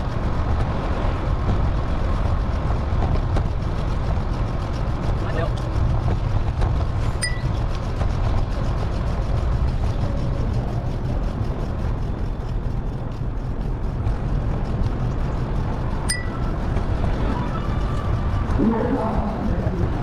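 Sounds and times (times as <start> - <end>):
bicycle road noise: 0.0 - 20.0
wind rumble: 0.0 - 20.0.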